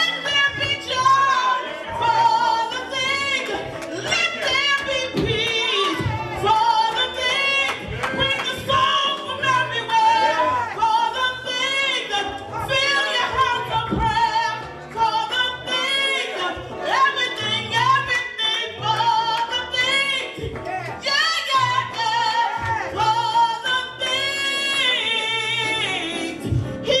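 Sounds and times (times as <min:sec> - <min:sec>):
steady bass line: 0:00.0 - 0:27.0.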